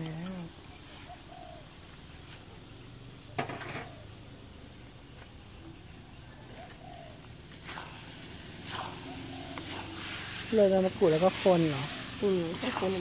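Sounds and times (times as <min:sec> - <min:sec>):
faint chirps: 0:00.0 - 0:13.0.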